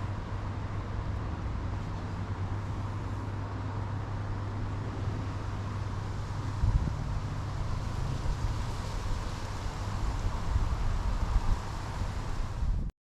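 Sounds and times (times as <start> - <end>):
constant low hum: 0.0 - 12.9.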